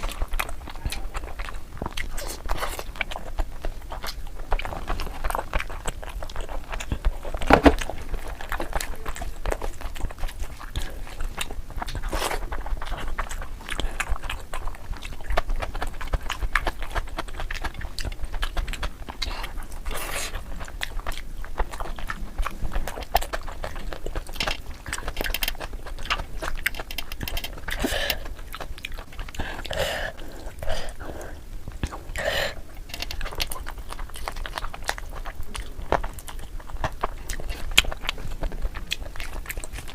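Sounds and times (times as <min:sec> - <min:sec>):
chewing and biting crunches: 0:00.0 - 0:39.9.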